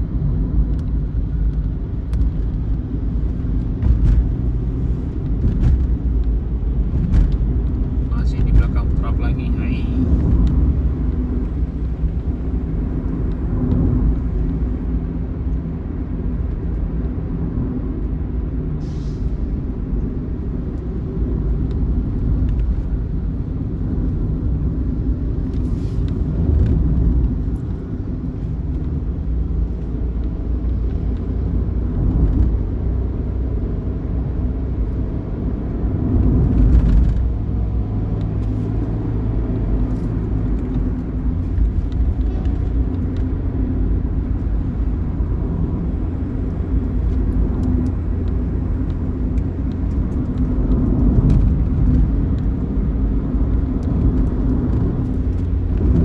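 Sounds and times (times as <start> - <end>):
bus engine droning: 0.0 - 16.6, 18.0 - 56.0
road rumble: 0.0 - 56.0.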